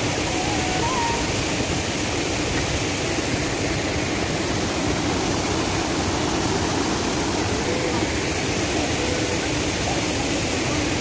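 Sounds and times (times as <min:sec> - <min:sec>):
stream and waterfall rushing: 0:00.0 - 0:11.0.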